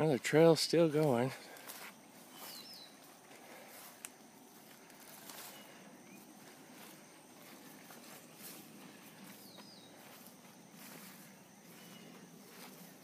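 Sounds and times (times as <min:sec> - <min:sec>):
footsteps through grass and brush: 0:00.0 - 0:13.0
rustling vegetation: 0:00.0 - 0:13.0.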